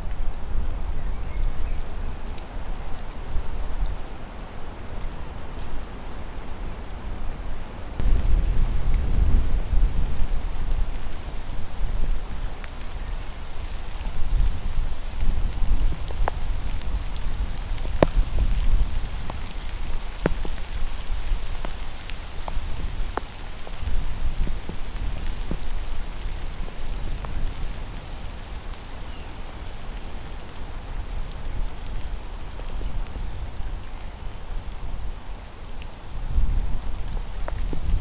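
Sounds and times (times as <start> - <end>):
flowing river water: 0.0 - 38.0
wind rumbling on microphone: 0.0 - 38.0.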